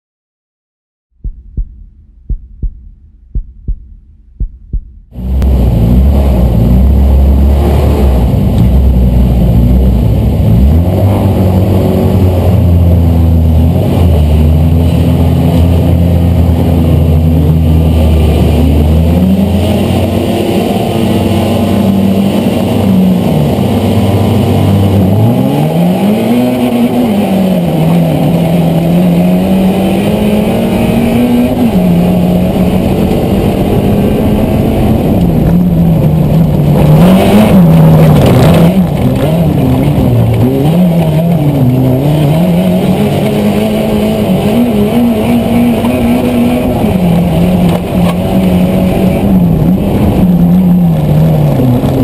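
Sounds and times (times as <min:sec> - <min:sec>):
car engine driven hard: 0:05.1 - 0:52.0.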